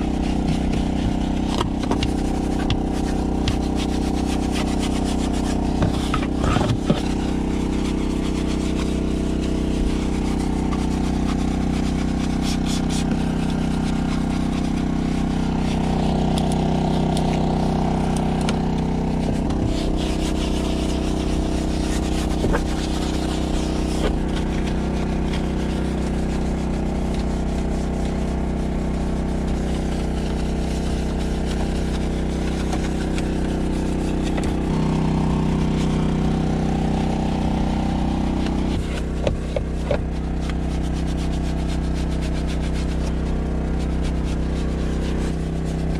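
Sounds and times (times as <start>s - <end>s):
brush scrubbing plastic dashboard: 0.0s - 45.9s
motor humming steadily: 0.0s - 45.9s.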